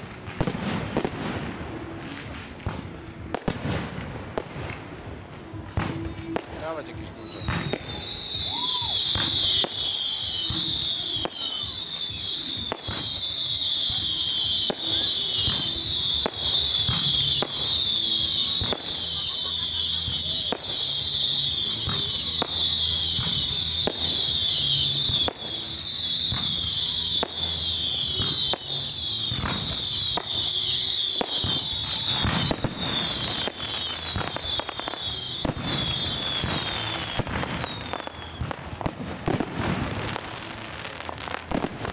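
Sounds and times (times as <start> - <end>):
fireworks bangs: 0.0 - 41.9
fireworks whistling: 0.0 - 41.9.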